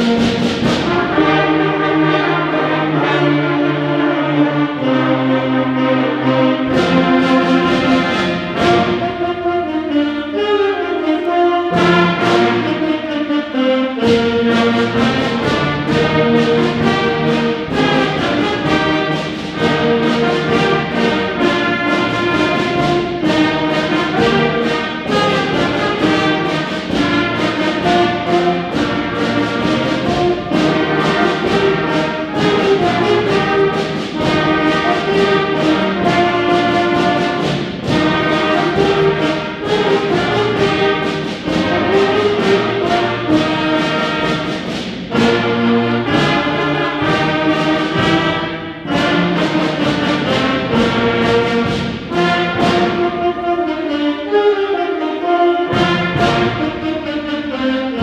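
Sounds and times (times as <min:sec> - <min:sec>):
steady percussion beat: 0:00.0 - 0:05.4, 0:06.0 - 0:09.9, 0:11.6 - 0:13.2, 0:14.0 - 0:53.6, 0:55.7 - 0:58.0
brass melody: 0:00.0 - 0:58.0
concert band playing a march: 0:00.0 - 0:58.0.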